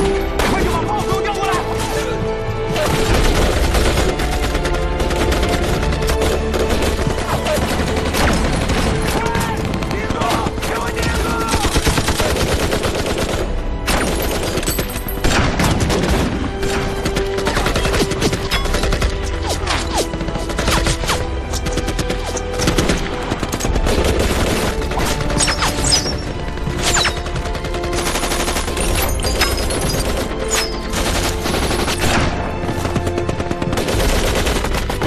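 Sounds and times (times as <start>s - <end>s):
rifle and machine-gun fire: 2.7s - 19.2s, 21.8s - 35.0s.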